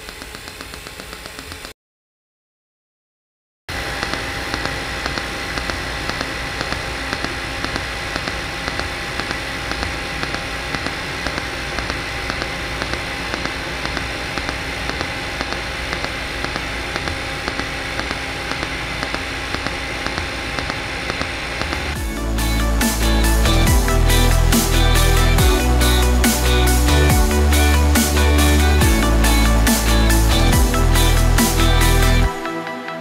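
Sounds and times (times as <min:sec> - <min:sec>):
welding arc hiss and buzz: 0:00.0 - 0:01.7, 0:03.7 - 0:32.4
electronic music: 0:05.7 - 0:33.0.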